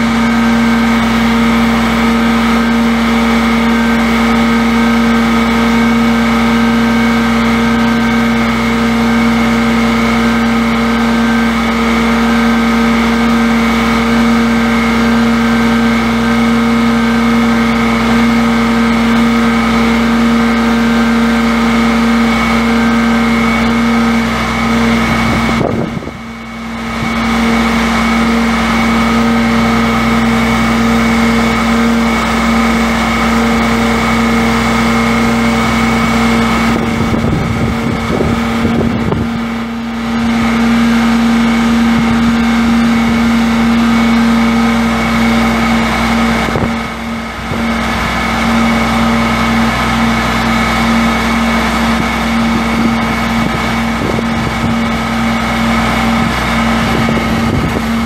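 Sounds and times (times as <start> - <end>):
diesel truck engine humming: 0.0 - 58.0.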